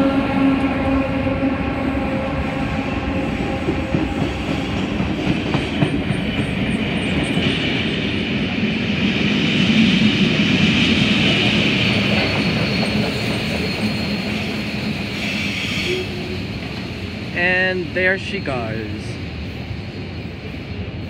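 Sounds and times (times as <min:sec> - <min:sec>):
diesel locomotive droning: 0:00.0 - 0:21.0
steam locomotive passing: 0:00.0 - 0:21.0.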